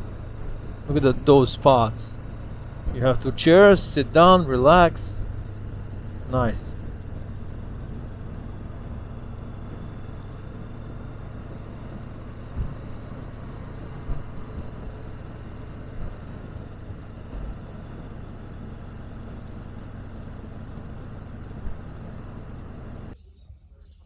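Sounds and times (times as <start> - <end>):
motorcycle engine running: 0.0 - 23.2
low thumps: 2.1 - 23.2.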